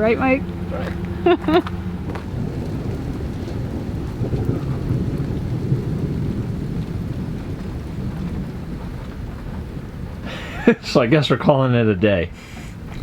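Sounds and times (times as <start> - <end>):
rain shower: 0.0 - 13.0
thunder rumbling: 0.0 - 13.0.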